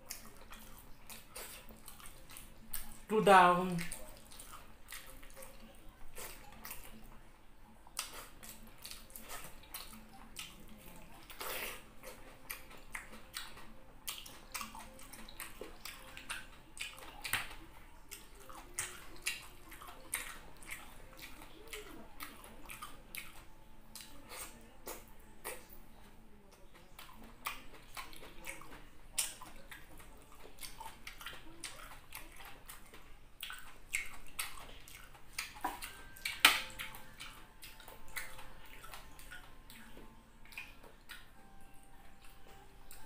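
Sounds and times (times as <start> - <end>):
chewing with wet lip smacks: 0.0 - 3.1, 3.7 - 43.0.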